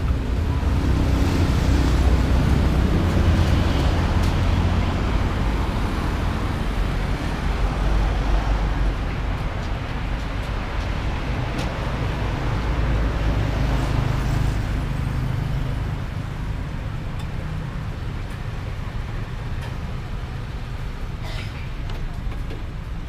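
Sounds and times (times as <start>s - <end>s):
passing cars rumbling: 0.0s - 23.0s.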